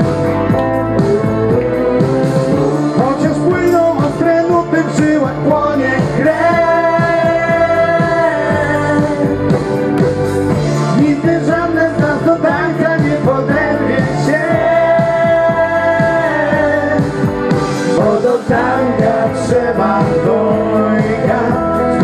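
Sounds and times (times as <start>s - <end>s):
pop dance music: 0.0s - 22.0s.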